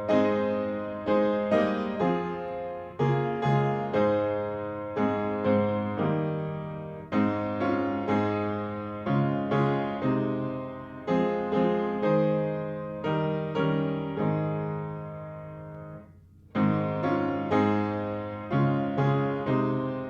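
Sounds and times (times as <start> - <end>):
hymn played on piano: 0.0 - 20.0.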